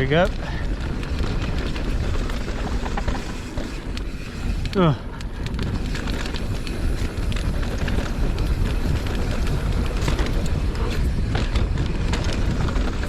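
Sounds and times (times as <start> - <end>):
bike clicking and rattling: 0.0 - 13.0
tyres rumbling over dirt: 0.0 - 13.0.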